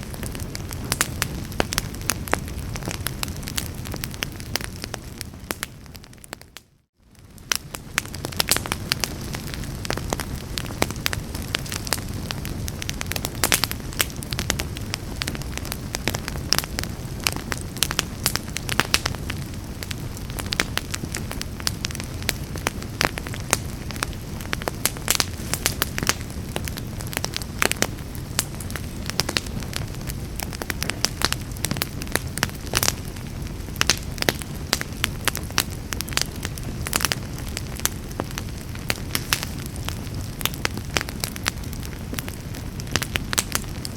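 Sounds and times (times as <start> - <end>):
fire crackling in fireplace: 0.0 - 43.9.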